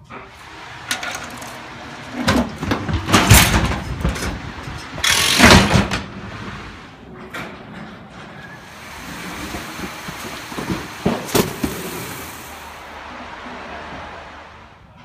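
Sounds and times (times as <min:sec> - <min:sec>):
boxes on metal conveyor: 0:00.0 - 0:14.4
freight clattering and rumbling: 0:00.0 - 0:15.0.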